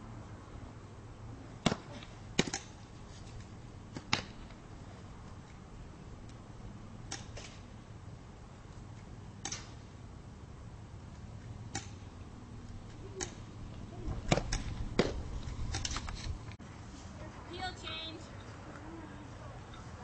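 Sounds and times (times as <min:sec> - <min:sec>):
low outdoor hum: 0:00.0 - 0:20.0.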